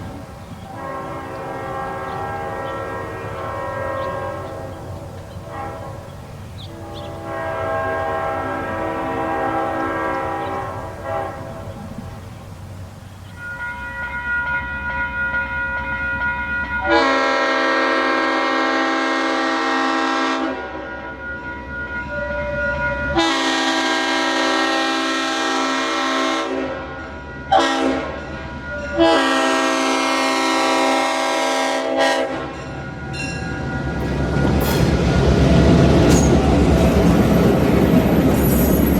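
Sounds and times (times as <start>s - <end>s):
locomotive rumbling past: 0.0s - 38.9s
locomotive horn blasts: 0.6s - 12.3s, 13.3s - 33.2s.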